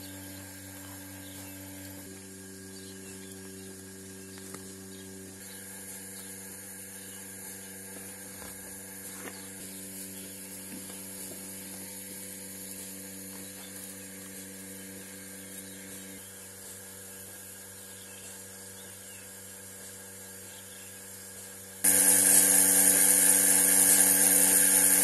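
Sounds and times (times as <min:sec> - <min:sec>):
machine humming: 0:00.0 - 0:17.8, 0:21.8 - 0:25.0.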